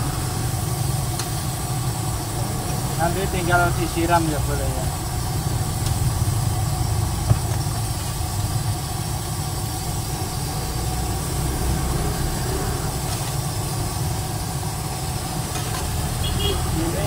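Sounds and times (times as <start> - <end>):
gas burner roaring: 0.0 - 17.0.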